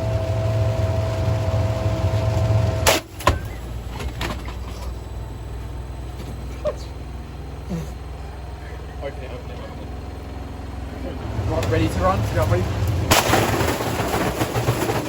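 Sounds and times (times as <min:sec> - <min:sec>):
washing machine humming: 0:00.0 - 0:15.0
washing machine whine: 0:00.0 - 0:15.0.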